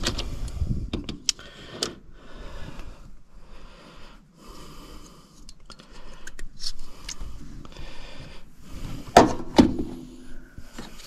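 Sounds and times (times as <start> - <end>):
heavy breathing: 0.0 - 9.2.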